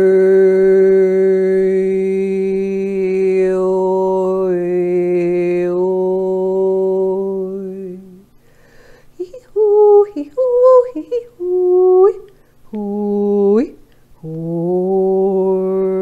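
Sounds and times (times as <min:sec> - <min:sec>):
woman chanting a sustained note: 0:00.0 - 0:08.4, 0:09.2 - 0:16.0.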